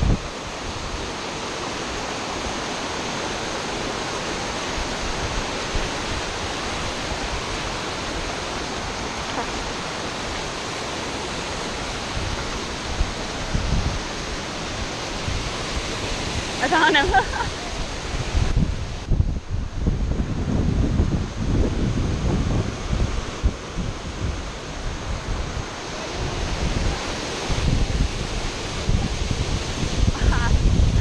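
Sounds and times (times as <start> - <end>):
water running over rocks: 0.0 - 31.0
waterfall rushing: 0.0 - 31.0.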